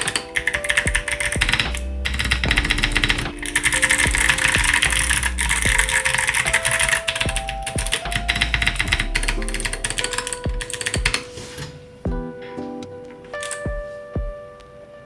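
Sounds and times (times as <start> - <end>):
clicky keyboard typing: 0.0 - 14.7.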